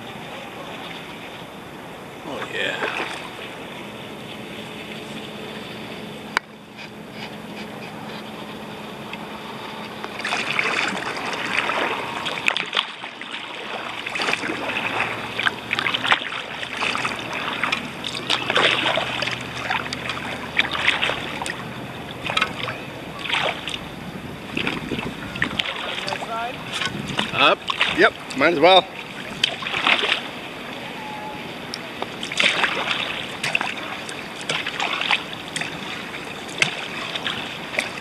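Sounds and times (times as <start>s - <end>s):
paddle splashing in water: 0.0s - 5.7s, 9.1s - 38.0s.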